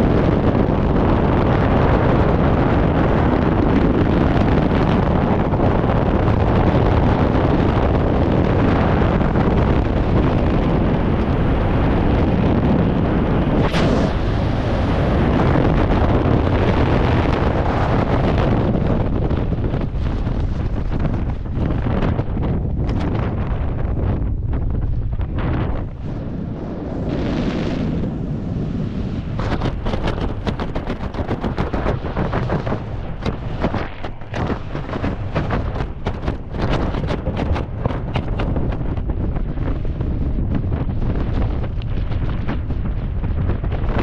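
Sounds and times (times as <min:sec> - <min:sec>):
freefall wind rushing: 0:00.0 - 0:44.0.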